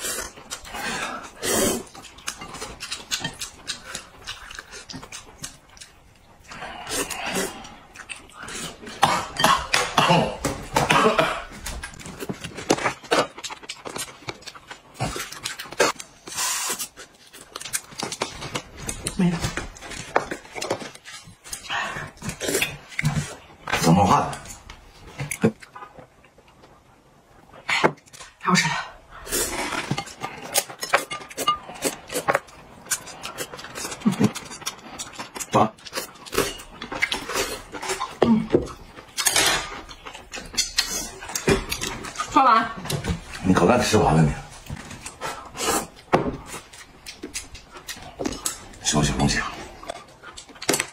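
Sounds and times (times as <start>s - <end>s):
slurping and chewing: 0.0s - 28.4s, 29.1s - 50.9s.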